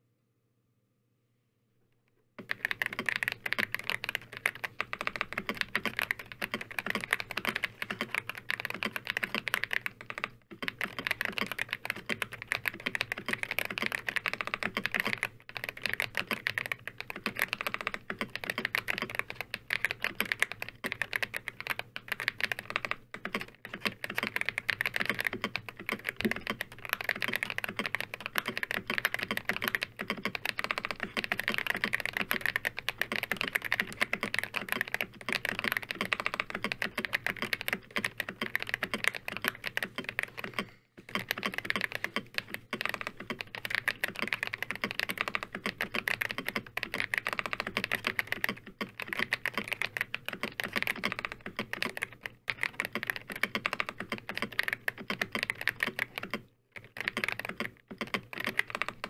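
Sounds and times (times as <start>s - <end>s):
mechanical keyboard typing: 2.4s - 59.0s.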